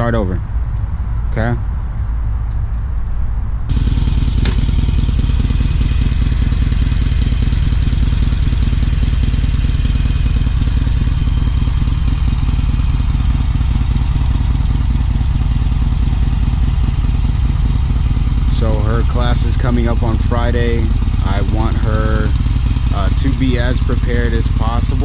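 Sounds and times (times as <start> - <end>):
motorcycle engine idling: 3.7 - 25.0.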